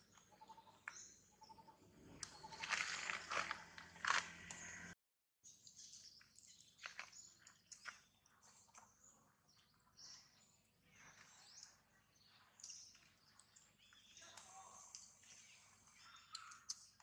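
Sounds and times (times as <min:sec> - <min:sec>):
faint high bird chirps: 0:00.0 - 0:17.0.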